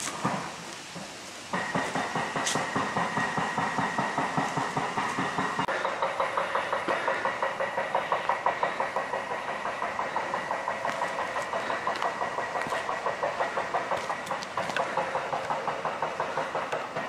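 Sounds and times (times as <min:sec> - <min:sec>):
rapid hammering: 0:00.2 - 0:17.0.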